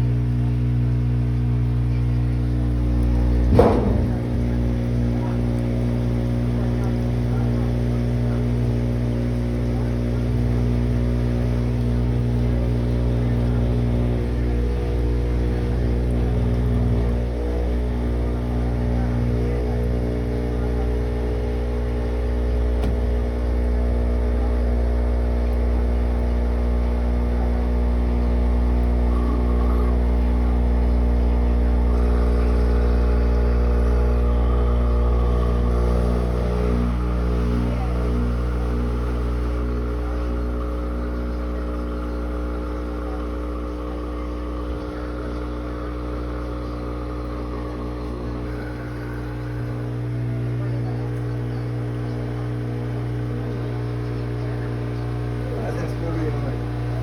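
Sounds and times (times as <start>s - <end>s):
washing machine droning: 0.0s - 57.0s.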